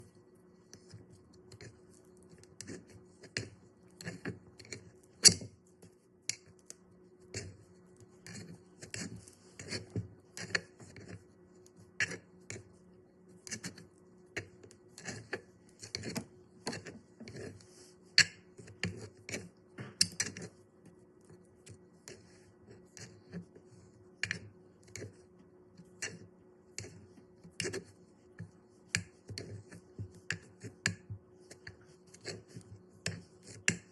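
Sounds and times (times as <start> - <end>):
faint steady hum: 0.0 - 33.9
play dough squished with sticky clicks: 0.6 - 33.9.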